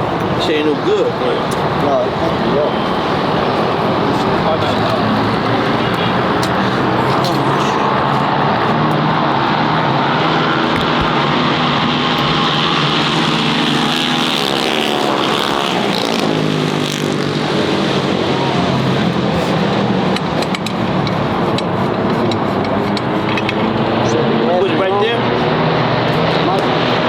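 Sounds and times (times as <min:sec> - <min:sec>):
mini bike engine running: 0:00.0 - 0:24.2.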